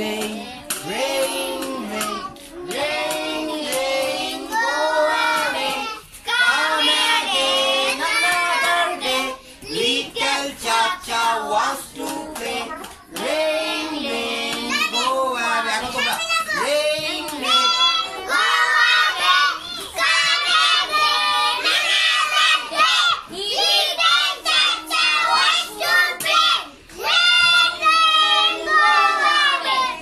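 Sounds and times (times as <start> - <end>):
children singing: 0.0 - 30.0.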